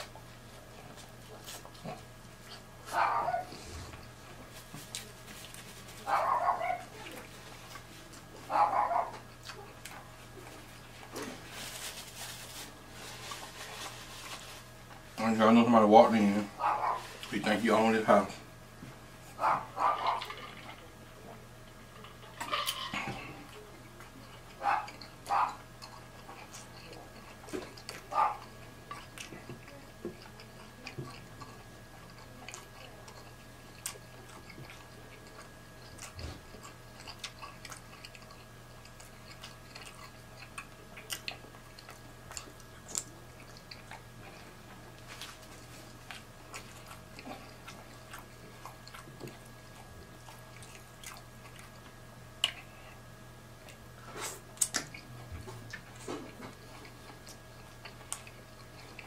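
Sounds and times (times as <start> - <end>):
person chewing food: 0.0 - 15.4, 22.0 - 59.0
faint steady hum: 0.0 - 59.0.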